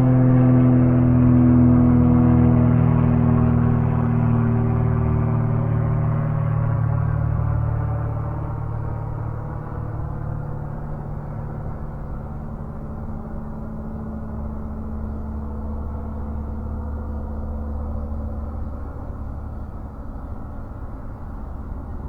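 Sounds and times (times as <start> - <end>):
distant airplane rumble: 0.0 - 22.0.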